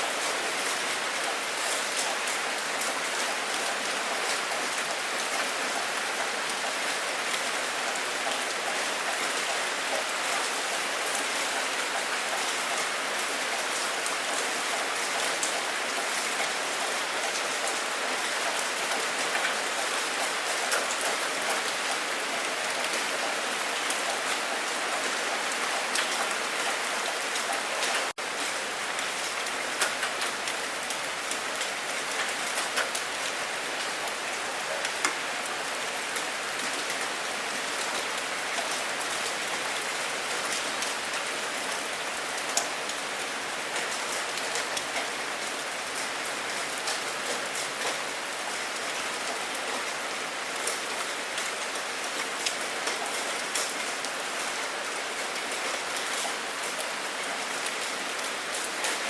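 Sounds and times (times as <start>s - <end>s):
raindrops hitting close by: 0.0s - 59.0s
steady rain falling: 0.0s - 59.0s.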